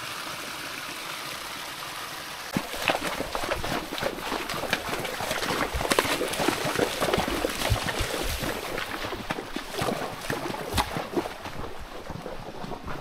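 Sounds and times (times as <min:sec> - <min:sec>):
water splashing and gurgling: 0:00.0 - 0:13.0.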